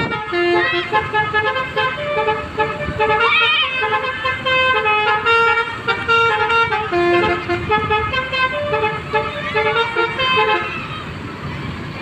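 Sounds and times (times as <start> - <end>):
musical multi-tone bus horn: 0.0 - 11.2
bus engine rumble: 0.0 - 12.0.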